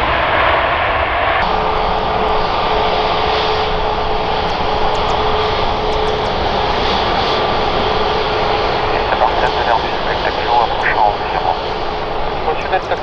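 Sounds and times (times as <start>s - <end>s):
jet engines running: 1.4s - 13.0s.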